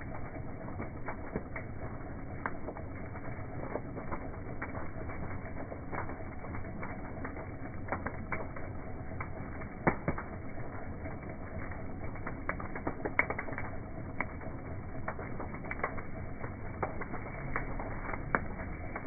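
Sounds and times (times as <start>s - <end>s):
bonfire crackling and popping: 0.0s - 19.0s
rushing of burning fire: 0.0s - 19.0s.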